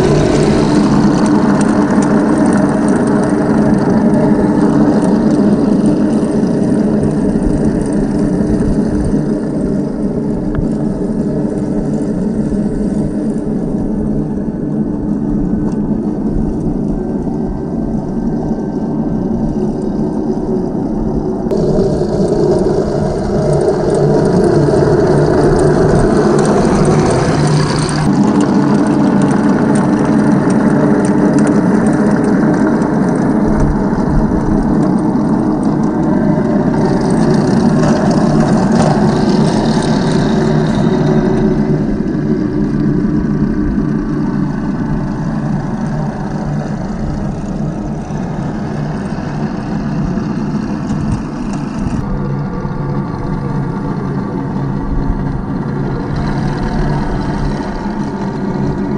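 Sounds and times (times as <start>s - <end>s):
simulated tank engine: 0.0s - 58.9s
toy gear motors and tracks: 0.0s - 58.9s.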